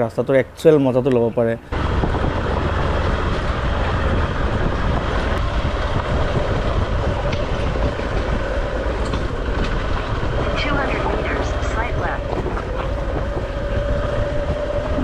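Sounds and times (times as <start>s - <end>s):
ground and wind rumble: 0.0s - 15.0s
motorcycle engine running: 1.7s - 15.0s.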